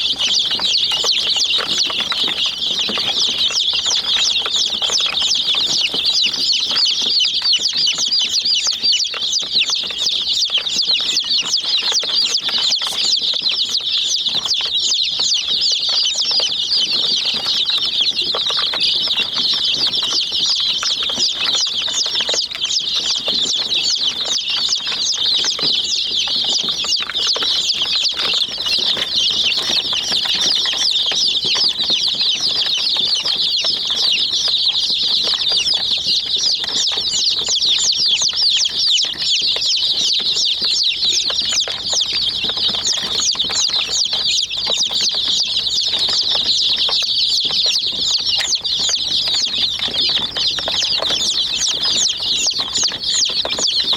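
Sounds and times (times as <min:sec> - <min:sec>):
chicks peeping: 0:00.0 - 0:53.9.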